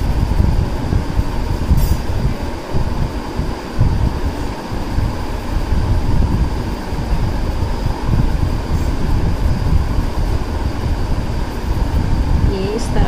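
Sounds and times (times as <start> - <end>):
machine rumbling: 0.0 - 13.0.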